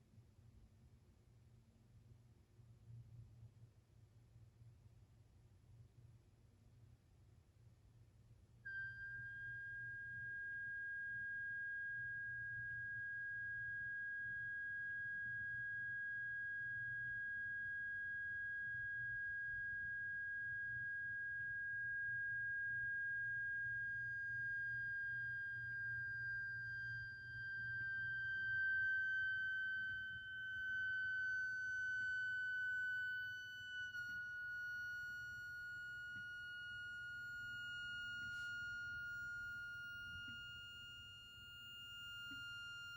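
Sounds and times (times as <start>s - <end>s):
faint low hum: 0.0s - 42.9s.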